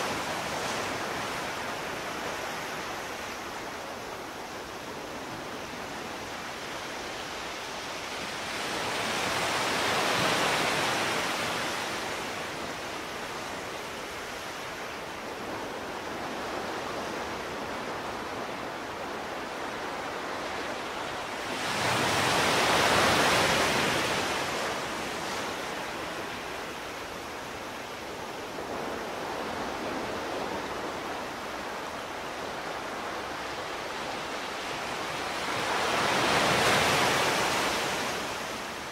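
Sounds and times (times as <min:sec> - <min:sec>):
rushing water-like noise: 0:00.0 - 0:38.9.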